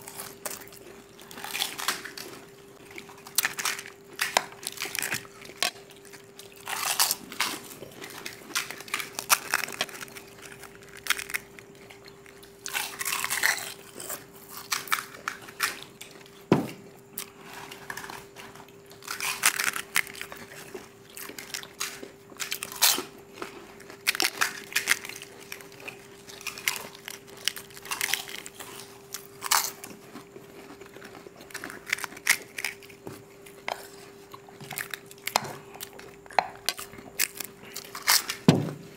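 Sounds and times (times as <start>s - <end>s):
crisp shells crunching: 0.0s - 16.2s, 17.2s - 38.9s
people chewing: 0.0s - 38.9s.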